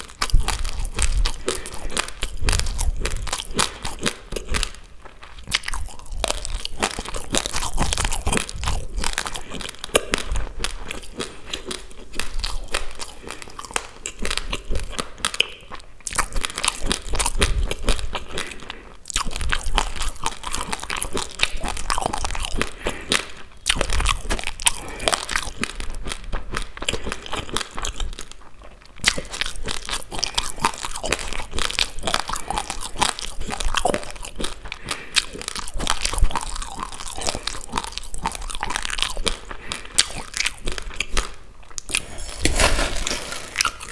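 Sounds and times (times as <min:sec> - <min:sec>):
chewing dry rice crunching: 0:00.0 - 0:43.9.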